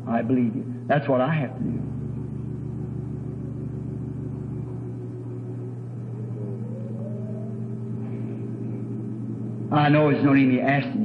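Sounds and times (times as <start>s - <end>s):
low hum of held tones: 0.0s - 11.0s
faint rising tone: 1.8s - 11.0s.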